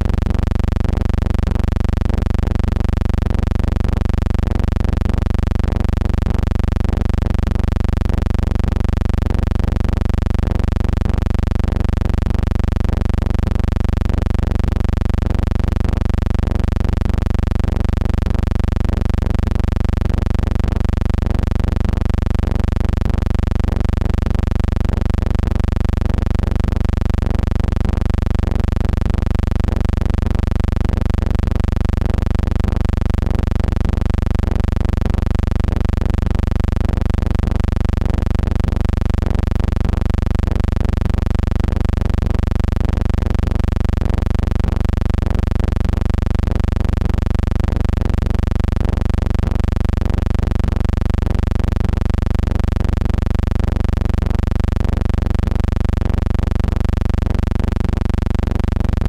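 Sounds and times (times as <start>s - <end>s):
steady low hum: 0.0s - 47.4s.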